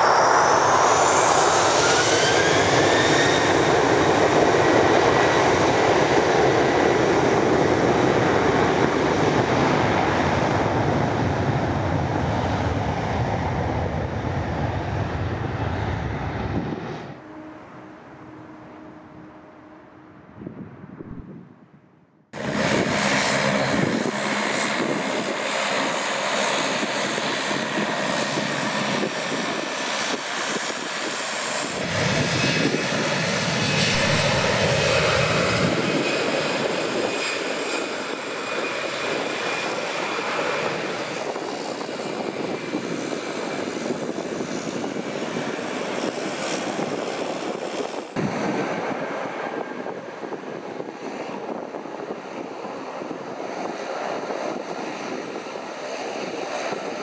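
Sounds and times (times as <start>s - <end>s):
turboprop engines whine and drone: 0.0s - 21.6s, 22.3s - 57.0s
distant jet engines: 0.0s - 57.0s.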